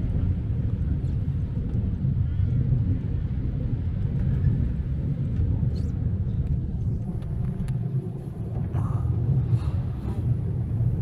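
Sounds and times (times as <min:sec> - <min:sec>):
tram rumbling: 0:00.0 - 0:11.0.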